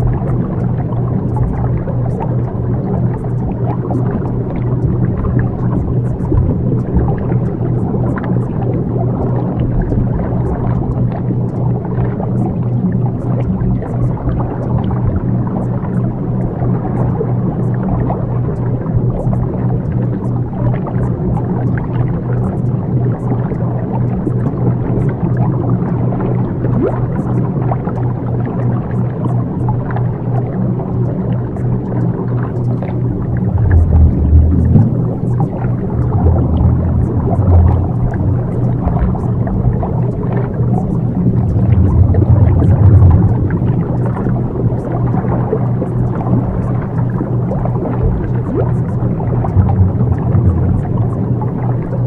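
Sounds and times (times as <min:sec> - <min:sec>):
low drone: 0:00.0 - 0:23.0, 0:30.1 - 0:52.0
faint gliding tones: 0:00.0 - 0:28.1, 0:28.8 - 0:52.0
dense rumbling wash: 0:00.0 - 0:29.2, 0:29.8 - 0:52.0
steady low hum: 0:00.0 - 0:52.0
watery gurgling: 0:00.0 - 0:52.0.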